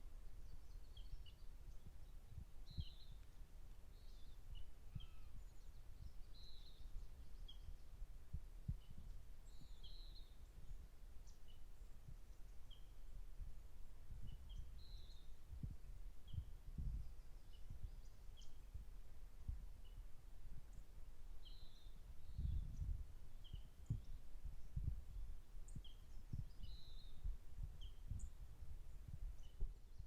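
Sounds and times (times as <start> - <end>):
wind rumble on microphone: 0.0 - 30.0
small birds chirping: 0.3 - 30.0.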